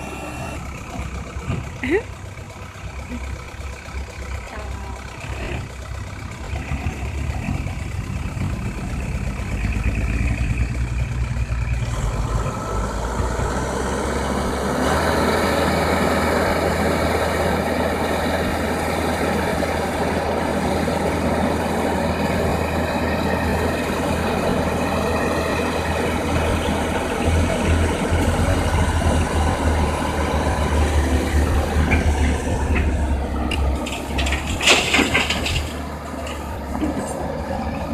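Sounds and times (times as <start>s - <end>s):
dump truck engine: 0.0s - 37.9s
excavator diesel engine: 0.0s - 37.9s.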